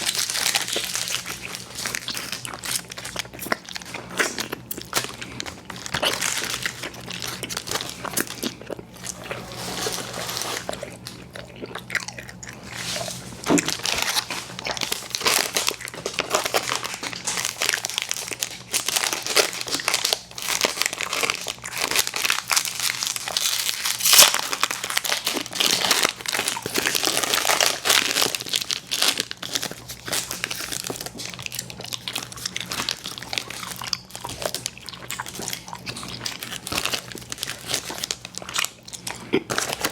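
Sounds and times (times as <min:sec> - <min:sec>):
chewing chewy candy: 0:00.0 - 0:39.9.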